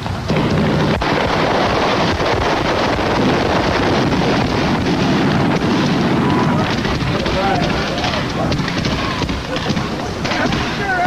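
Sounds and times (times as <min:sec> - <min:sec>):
fireworks crackling and hissing: 0:00.0 - 0:11.0
sharp firework crack: 0:00.0 - 0:11.0.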